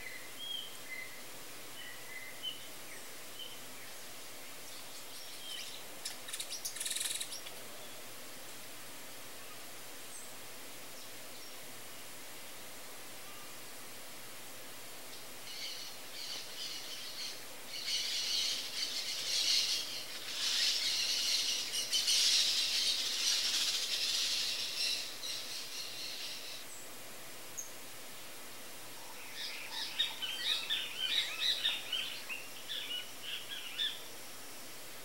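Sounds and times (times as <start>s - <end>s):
small birds twittering: 0.0s - 11.7s, 15.1s - 27.8s, 28.9s - 34.1s.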